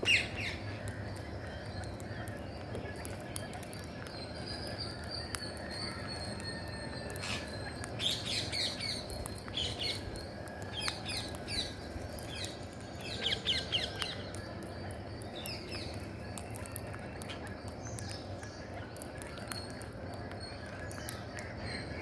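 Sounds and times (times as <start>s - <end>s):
birds chirping: 0.0s - 22.0s
low background hum: 0.0s - 22.0s.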